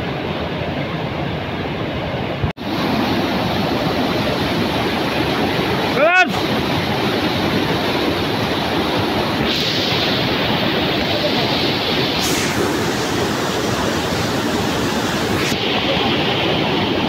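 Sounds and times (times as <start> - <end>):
waterfall rushing over rocks: 2.4 - 17.0.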